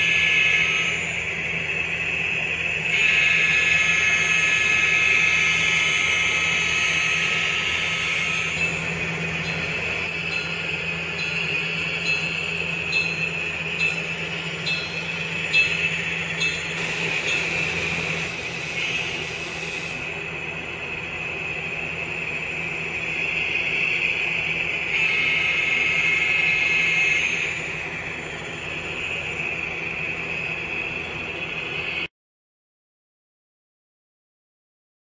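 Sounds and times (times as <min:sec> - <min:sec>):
high-pitched vacuum motor whine: 0:00.0 - 0:32.1
model train running on track: 0:00.0 - 0:32.1.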